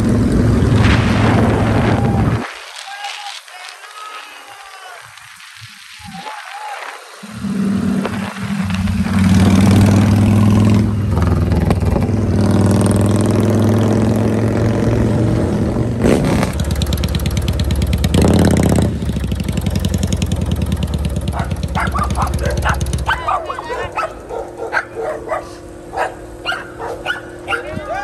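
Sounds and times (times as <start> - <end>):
engine running: 0.0 - 2.4, 7.0 - 28.0.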